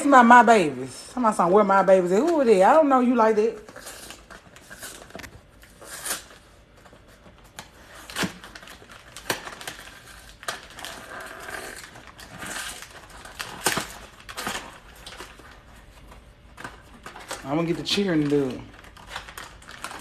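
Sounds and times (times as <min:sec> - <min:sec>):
packaging crinkling: 0:01.9 - 0:20.0.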